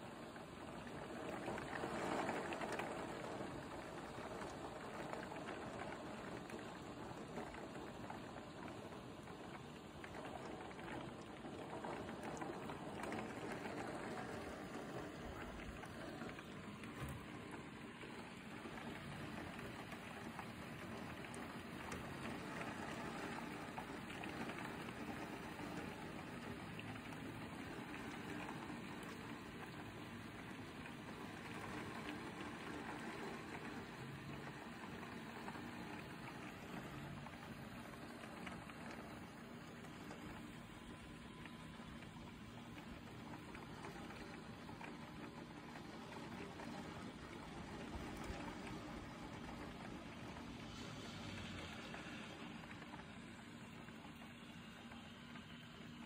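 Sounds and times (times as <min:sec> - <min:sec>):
heavy rain behind a window: 0:00.0 - 0:56.0.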